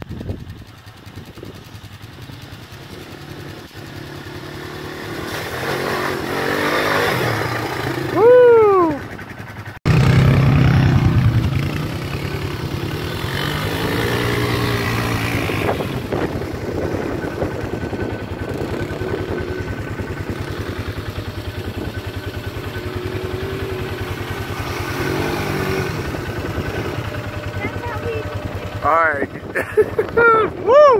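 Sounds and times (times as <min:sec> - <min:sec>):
atv engine revving: 0:00.0 - 0:30.9.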